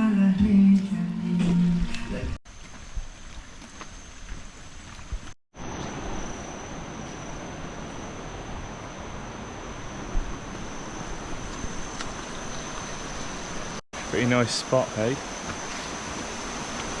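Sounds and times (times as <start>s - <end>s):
insects droning: 2.5s - 17.0s.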